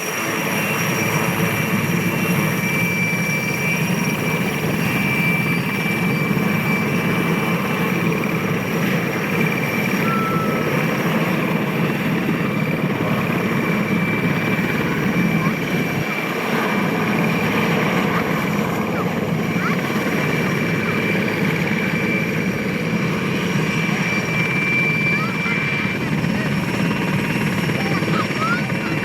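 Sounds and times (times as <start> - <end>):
helicopter turbine whine: 0.0 - 29.0.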